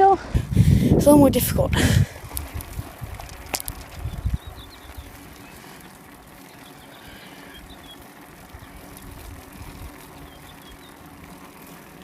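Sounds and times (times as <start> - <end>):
bicycle tyres and drivetrain rolling: 0.0 - 12.0.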